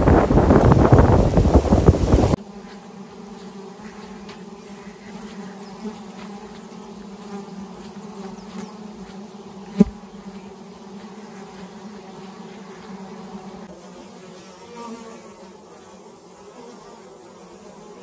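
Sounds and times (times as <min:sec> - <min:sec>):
buzz of insect wings: 0:00.0 - 0:18.0.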